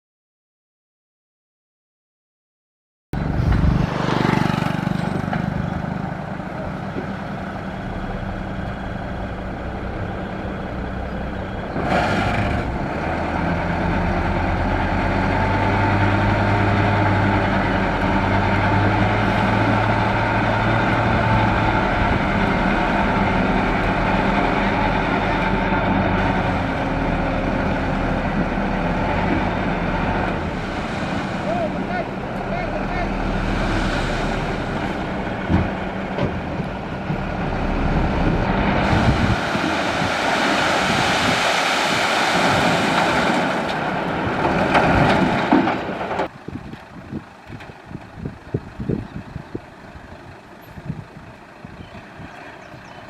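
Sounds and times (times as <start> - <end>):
truck diesel engine running: 3.2 - 11.8, 12.7 - 40.6, 43.2 - 53.0.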